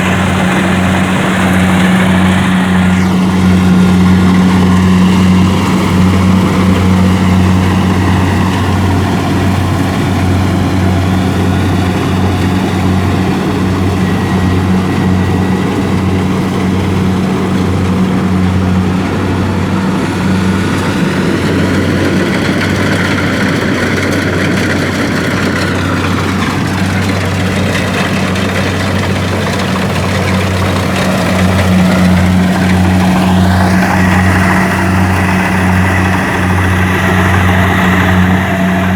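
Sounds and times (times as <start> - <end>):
diesel combine engine running: 0.0 - 38.9.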